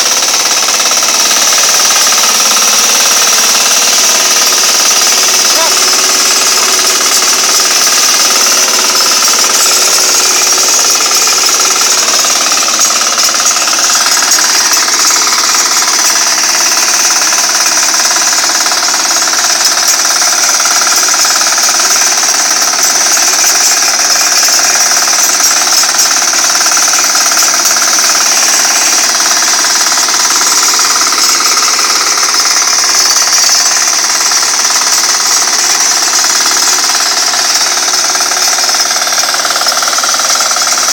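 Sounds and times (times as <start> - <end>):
small tractor engine running: 0.0 - 40.9
wheel churning through soil: 0.0 - 40.9.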